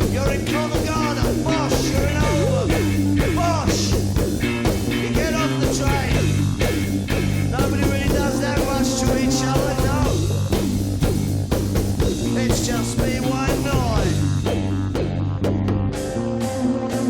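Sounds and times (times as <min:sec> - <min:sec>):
drum kit beating: 0:00.0 - 0:17.0
rock band playing live: 0:00.0 - 0:17.0.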